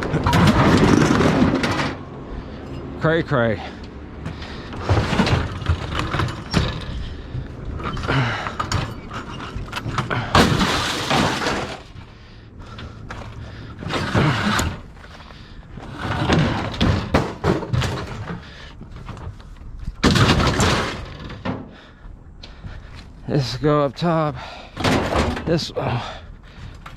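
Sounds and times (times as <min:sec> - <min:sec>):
scrap metal clattering and crashing: 0:00.0 - 0:03.0, 0:03.6 - 0:19.4, 0:20.0 - 0:21.9, 0:24.7 - 0:26.1.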